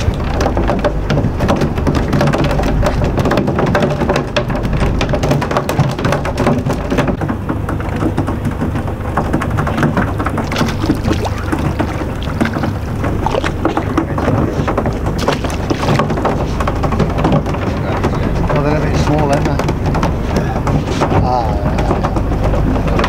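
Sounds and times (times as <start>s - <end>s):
water splashing: 0.0s - 21.0s
boat engine hum: 0.0s - 23.0s.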